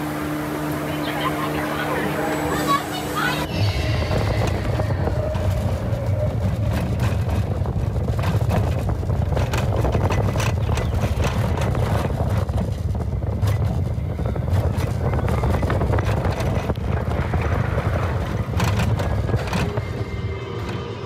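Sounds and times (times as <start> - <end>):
roller coaster rumbling on track: 0.0 - 21.0
wheels clacking on rails: 1.9 - 21.0.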